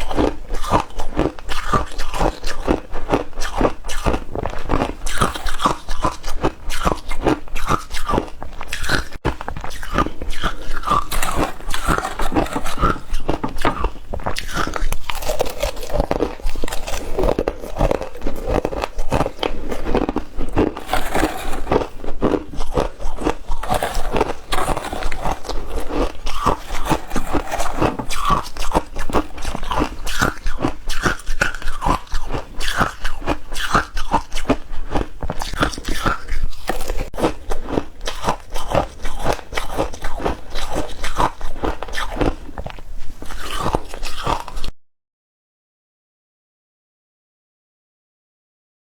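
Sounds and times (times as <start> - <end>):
ice being chewed: 0.0 - 44.7.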